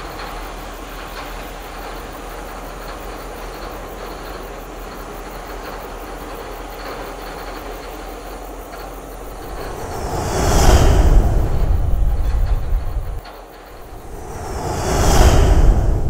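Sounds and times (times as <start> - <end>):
diesel locomotive engine rumble: 0.0 - 13.2
rail noise: 0.0 - 16.0.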